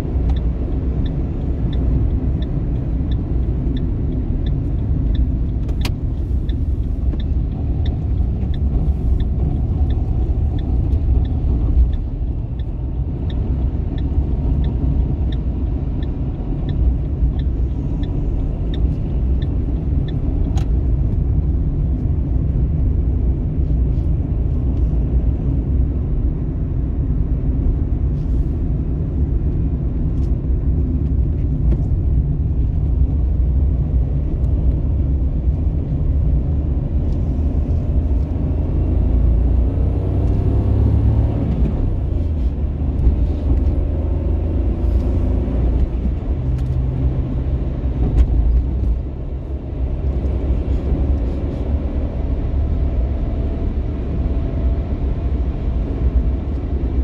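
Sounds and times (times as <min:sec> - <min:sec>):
car driving from inside cabin: 0:00.0 - 0:57.0.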